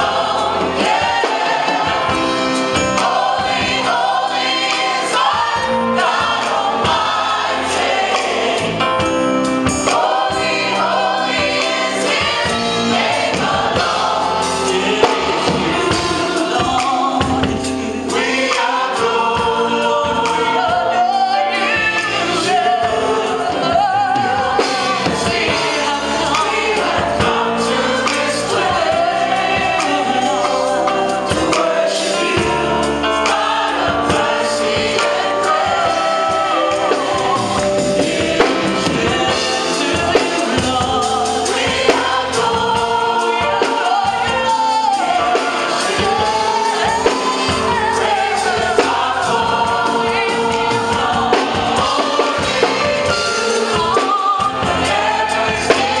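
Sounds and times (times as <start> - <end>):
choir singing gospel: 0.0 - 56.0
instrumental accompaniment: 0.0 - 56.0.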